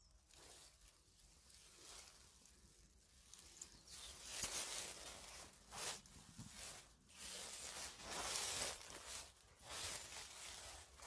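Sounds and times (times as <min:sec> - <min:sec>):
twigs and brush rustling: 0:00.0 - 0:11.0
footsteps through dry leaves: 0:00.2 - 0:11.0.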